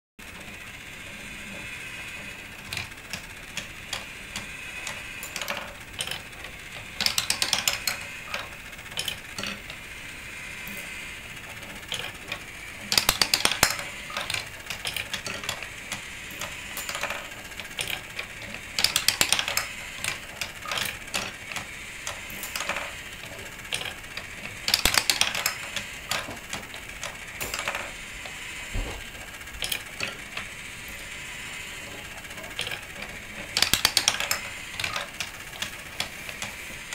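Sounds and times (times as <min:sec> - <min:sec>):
steady mechanical whir: 0:00.2 - 0:36.9
marbles clicking on wooden tracks: 0:02.0 - 0:09.9, 0:10.7 - 0:36.9.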